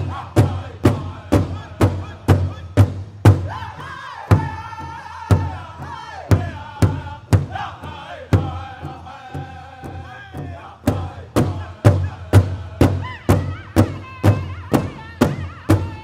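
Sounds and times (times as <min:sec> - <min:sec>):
big drum beats: 0:00.0 - 0:16.0
group singing high-pitched chant: 0:00.0 - 0:16.0.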